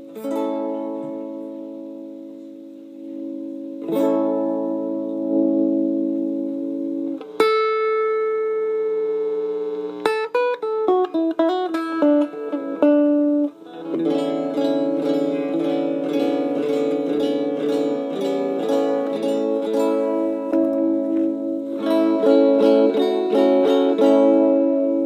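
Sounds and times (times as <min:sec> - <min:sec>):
electric guitar with sustain: 0:00.0 - 0:25.0.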